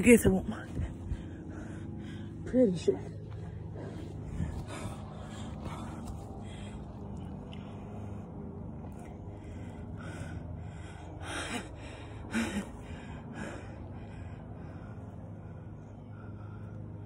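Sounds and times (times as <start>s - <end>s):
close breathing: 0.6s - 17.0s.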